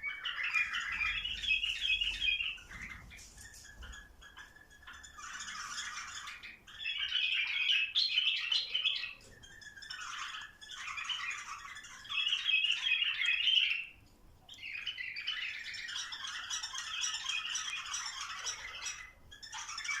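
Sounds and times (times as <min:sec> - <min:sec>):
bulbuls singing and chattering: 0:00.0 - 0:20.0.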